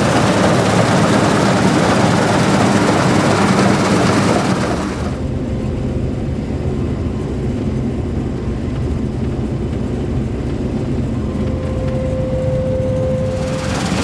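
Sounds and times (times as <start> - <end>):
combine harvester low drone: 0.0 - 14.0
faint steady whine: 0.0 - 14.0.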